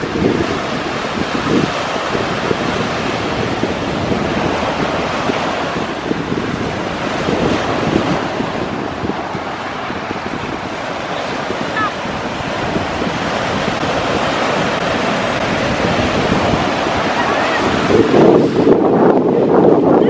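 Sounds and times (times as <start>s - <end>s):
waves washing up stony beach: 0.0s - 20.0s
wind buffeting microphone: 0.0s - 20.0s.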